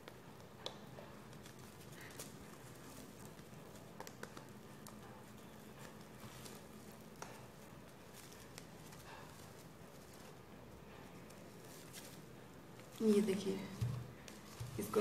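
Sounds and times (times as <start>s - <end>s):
soft handling clicks and rustles: 0.0s - 15.0s.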